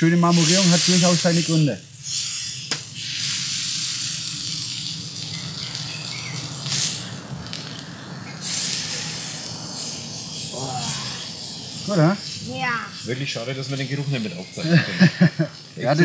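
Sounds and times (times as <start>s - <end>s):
steak sizzling on hot plate: 0.0s - 16.0s.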